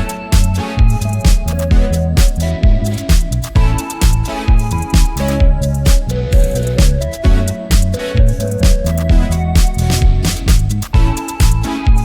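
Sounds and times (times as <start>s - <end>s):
electronic background music: 0.0s - 12.0s.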